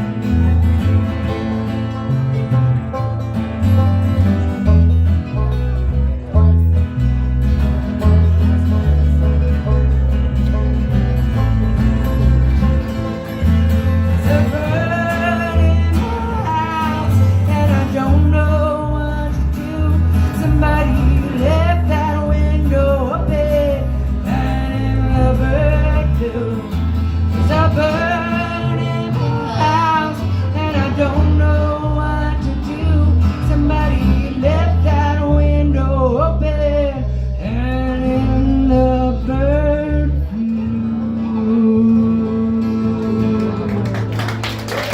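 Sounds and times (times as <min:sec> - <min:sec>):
acoustic guitar: 0:00.0 - 0:44.9
bass line: 0:00.0 - 0:44.9.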